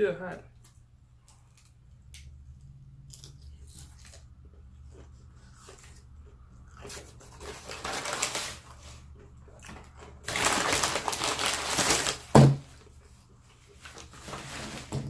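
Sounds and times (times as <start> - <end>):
crunching and chewing crispy food: 1.2 - 14.2.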